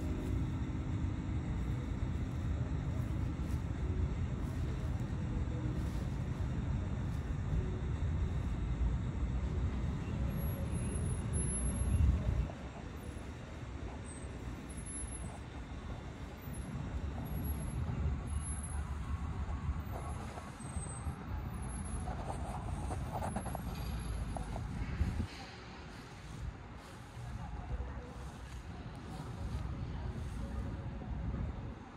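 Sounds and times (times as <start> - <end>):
low outdoor rumble: 0.0 - 31.9.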